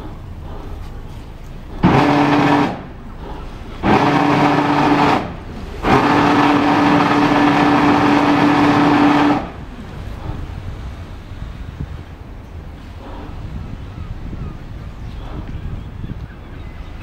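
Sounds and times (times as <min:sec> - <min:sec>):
boat thruster whine: 0:00.0 - 0:17.0.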